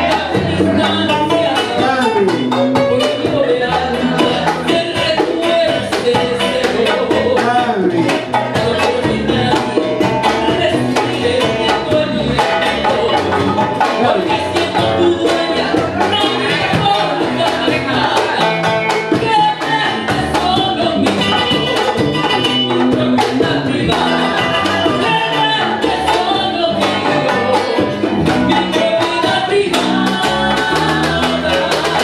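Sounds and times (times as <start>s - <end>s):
guitar: 0.0s - 32.0s
hand percussion: 0.0s - 32.0s
woman singing into a microphone: 0.0s - 32.0s.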